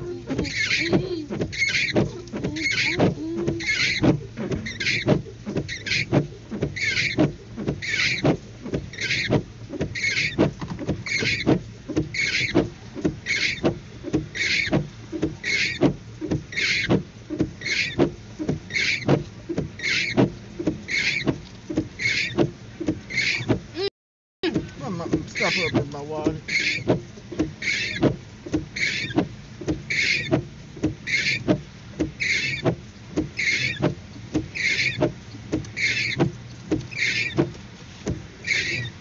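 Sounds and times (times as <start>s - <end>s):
windshield wipers squeaking: 0.0s - 39.0s.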